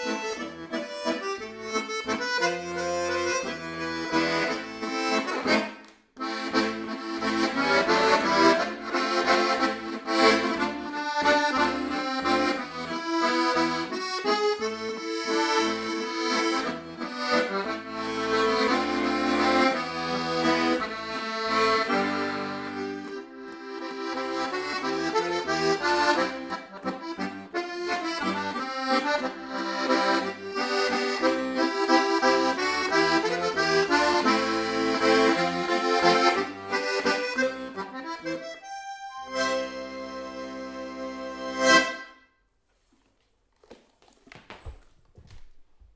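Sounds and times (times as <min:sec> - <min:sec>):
button accordion playing waltz: 0:00.0 - 0:42.2.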